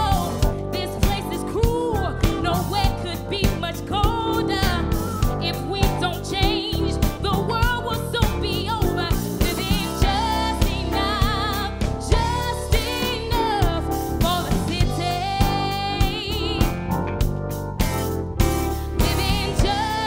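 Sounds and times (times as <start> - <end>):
woman singing with vibrato: 0.0 - 16.7, 19.0 - 20.0
drums and bass beat: 0.0 - 20.0
live band playing: 0.0 - 20.0.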